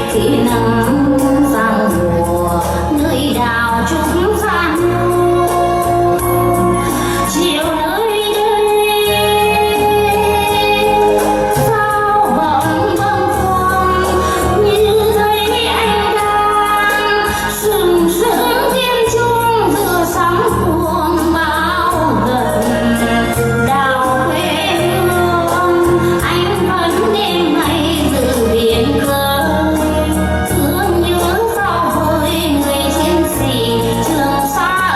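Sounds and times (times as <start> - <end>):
instrumental backing with bass: 0.0 - 34.9
woman singing: 0.0 - 34.9.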